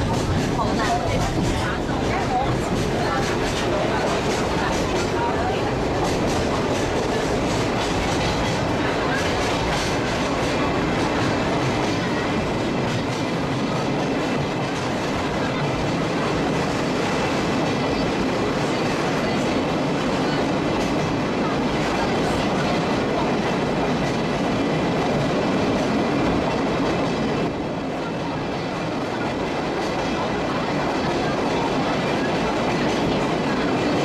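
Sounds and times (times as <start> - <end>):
train wheels clattering on rails: 0.0 - 34.0.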